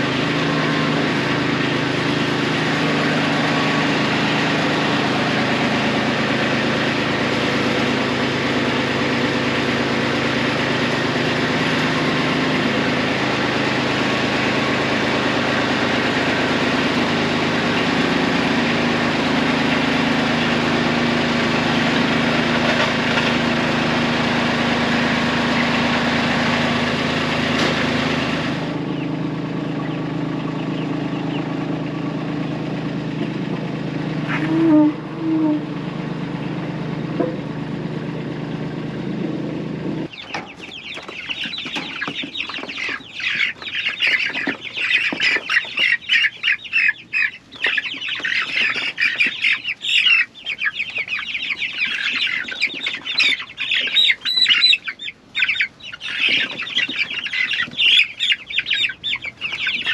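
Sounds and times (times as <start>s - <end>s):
chickens clucking and cheeping: 0.0s - 59.9s
engine running: 0.0s - 59.9s.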